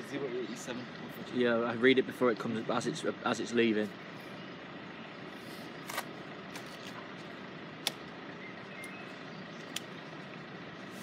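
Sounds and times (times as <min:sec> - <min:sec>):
diesel train idling: 0:00.0 - 0:11.0.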